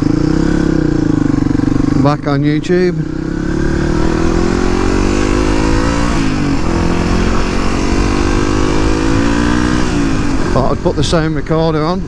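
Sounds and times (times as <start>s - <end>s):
single-cylinder engine revving: 0.0s - 12.0s.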